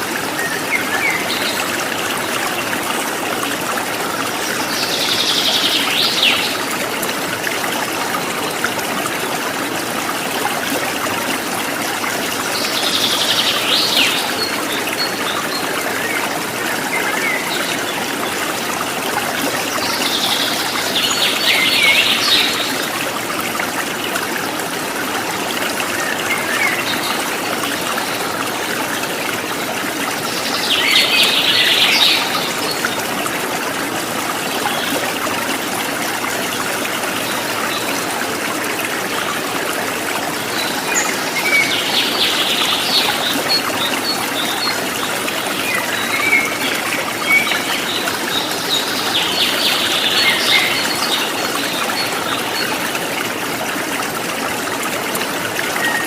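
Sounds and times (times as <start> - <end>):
stream water trickling: 0.0 - 56.0.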